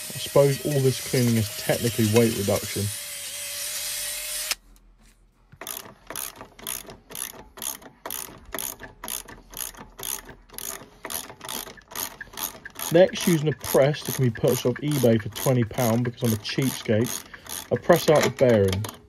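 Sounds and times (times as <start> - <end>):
drill wire brush running: 0.0 - 4.6, 5.6 - 19.0
hand ratchet clicking: 0.0 - 4.6, 5.6 - 19.0.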